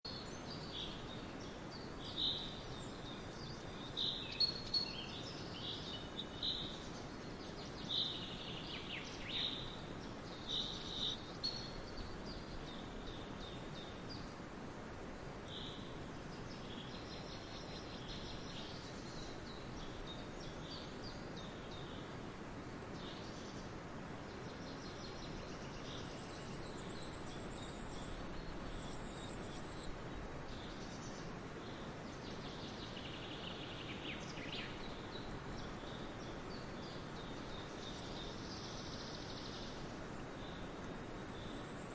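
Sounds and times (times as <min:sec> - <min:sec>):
small birds chirping: 0:00.0 - 0:41.9
faint steady hiss: 0:00.1 - 0:41.9.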